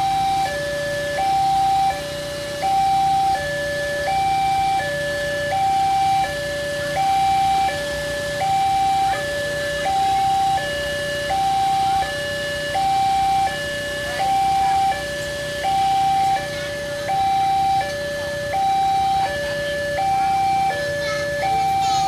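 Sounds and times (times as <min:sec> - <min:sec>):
level crossing two-tone alarm: 0:00.0 - 0:22.0.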